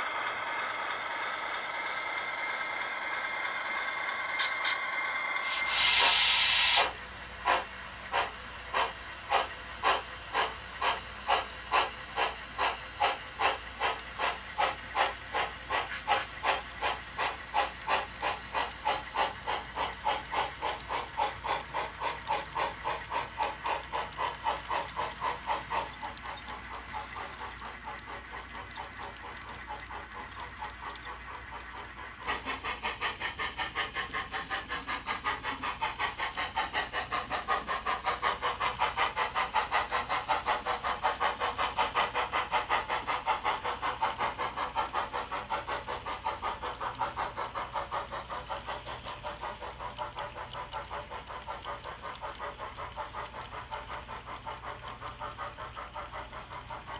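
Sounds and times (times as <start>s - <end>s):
model steam locomotive chuffing: 0.0s - 56.9s
steam hiss: 0.0s - 56.9s.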